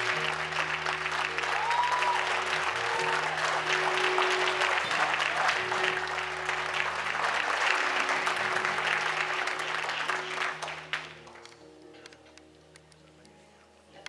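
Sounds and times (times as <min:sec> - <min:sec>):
congregation applauding: 0:00.0 - 0:11.6
music with long held chords: 0:00.0 - 0:14.0.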